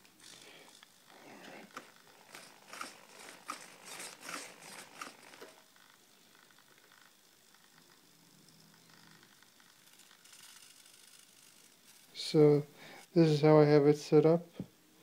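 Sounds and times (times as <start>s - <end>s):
servos whirring: 0.0s - 12.3s.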